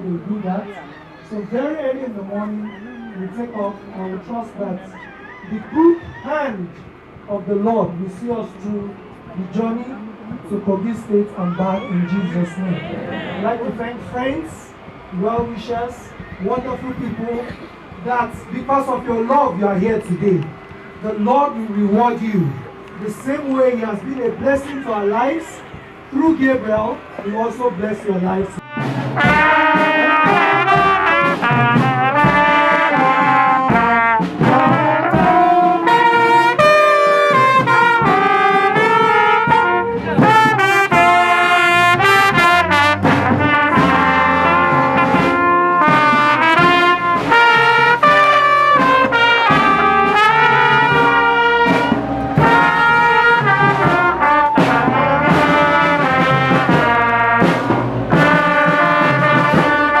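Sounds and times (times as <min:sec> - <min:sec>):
brass-led music: 0:10.7 - 1:00.0.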